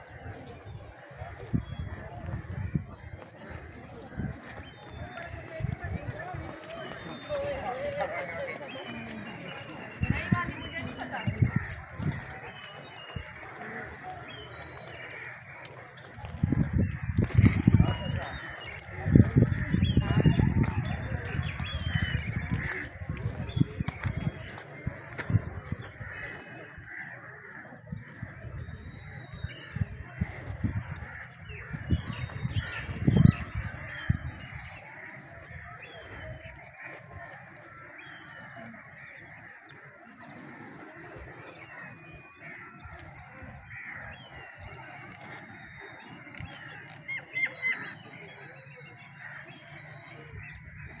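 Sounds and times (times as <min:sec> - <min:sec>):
birds calling and chirping: 0:00.0 - 0:51.0.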